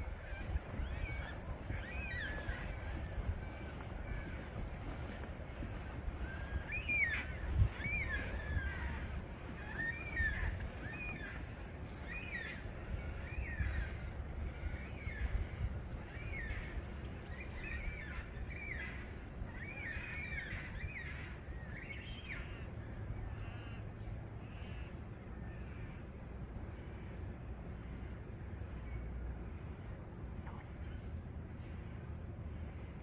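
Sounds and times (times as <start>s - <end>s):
birds calling: 0.0s - 33.0s
low steady rumble: 0.0s - 33.0s.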